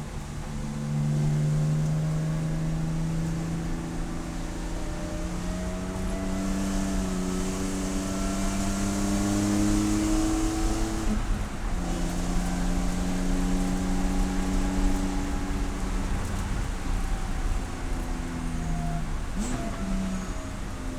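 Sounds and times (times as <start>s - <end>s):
race car engine revving: 1.0s - 20.7s.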